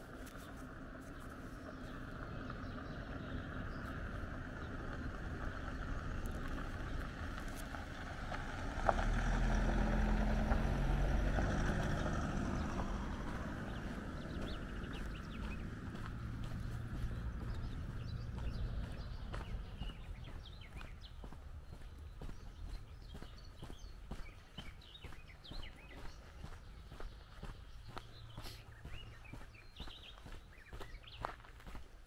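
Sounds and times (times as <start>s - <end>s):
vehicle driving on dirt road: 0.0s - 32.0s.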